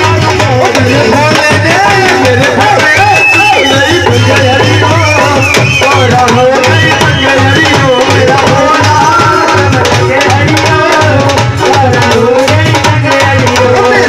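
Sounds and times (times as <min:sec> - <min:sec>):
hand drum beating: 0:00.0 - 0:14.0.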